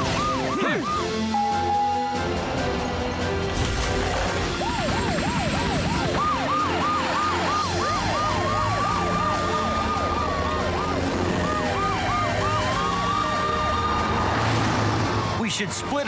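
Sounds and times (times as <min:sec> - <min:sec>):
cartoon sirens sweeping: 0:00.0 - 0:02.4, 0:04.1 - 0:16.0
slow siren wail: 0:00.0 - 0:02.6, 0:04.0 - 0:15.4.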